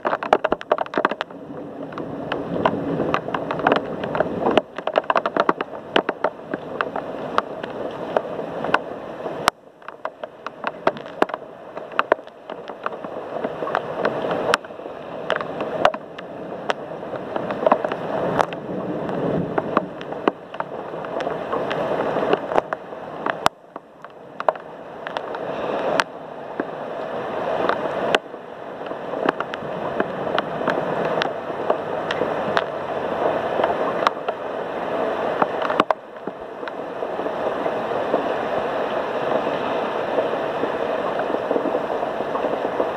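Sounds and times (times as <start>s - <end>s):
drips and splashes: 0.0s - 42.9s
heavy rain pouring: 0.0s - 42.9s.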